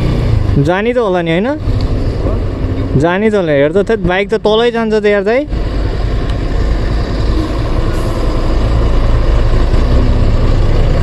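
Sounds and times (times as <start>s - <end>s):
vehicle engines in slow traffic: 0.0s - 11.0s.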